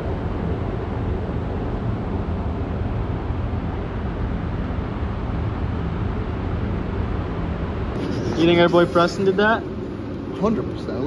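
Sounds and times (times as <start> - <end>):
faint steady hum: 0.0 - 11.0
low rumble of background noise: 0.0 - 11.0.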